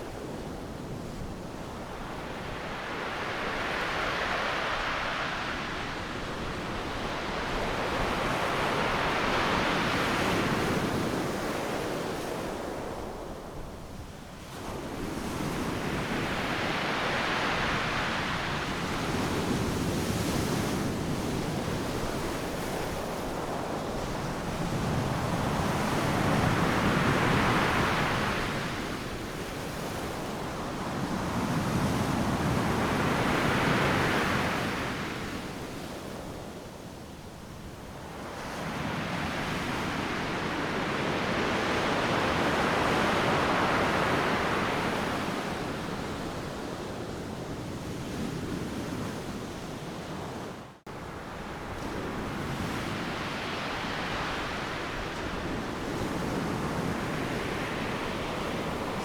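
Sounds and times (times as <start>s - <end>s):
ocean waves breaking on beach: 0.0s - 13.7s, 14.4s - 59.0s.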